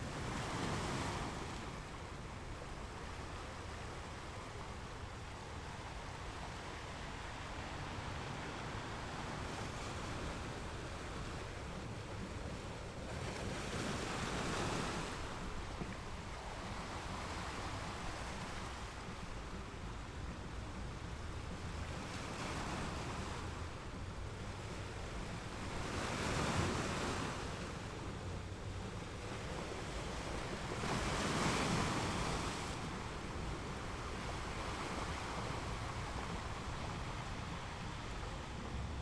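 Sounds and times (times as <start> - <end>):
ocean waves washing onto shore: 0.0 - 39.0.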